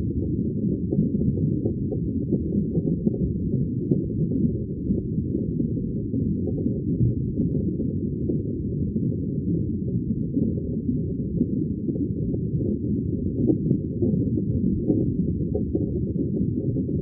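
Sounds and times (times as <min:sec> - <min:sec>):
underwater bubbling rumble: 0:00.0 - 0:17.0.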